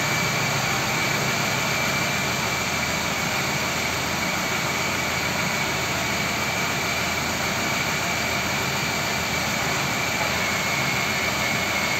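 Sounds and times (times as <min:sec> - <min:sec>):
machine roar with high whine: 0:00.0 - 0:11.9.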